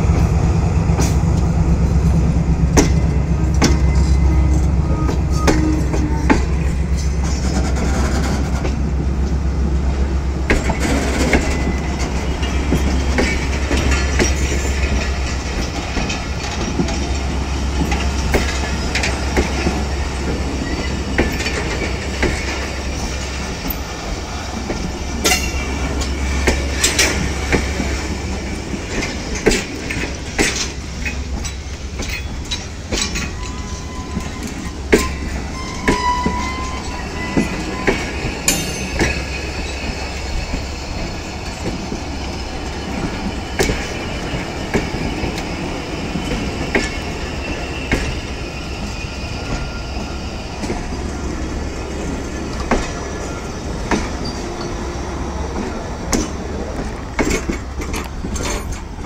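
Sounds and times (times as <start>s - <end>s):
train engine hum: 0.0s - 59.0s
wheels clanking over rail joints: 0.1s - 59.0s.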